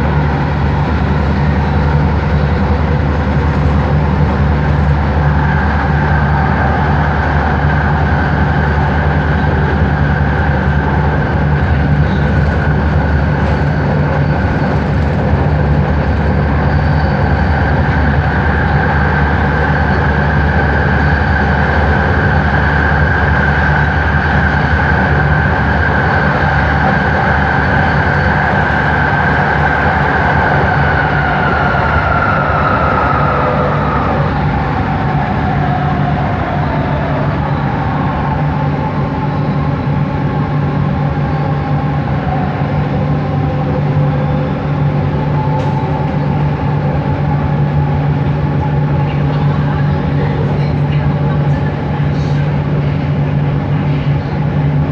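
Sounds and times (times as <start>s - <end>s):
metro train motor whine: 0.0s - 54.9s.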